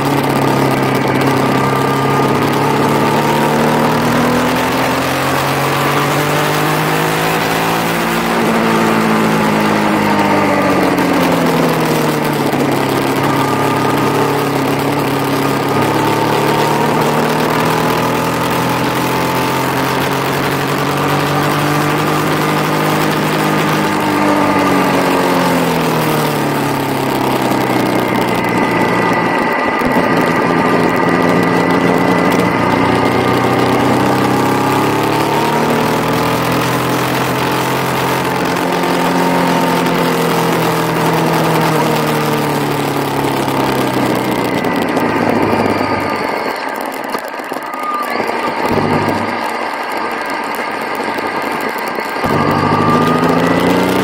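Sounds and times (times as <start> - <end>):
motorcycle engine: 0.0 - 54.0
wind noise: 0.0 - 54.0.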